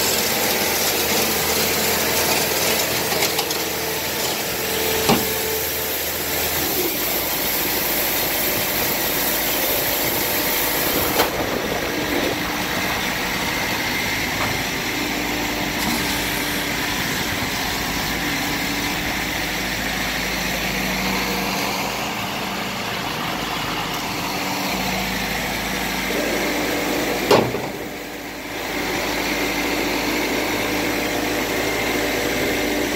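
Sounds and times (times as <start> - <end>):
skid steer engine running: 0.0 - 32.9.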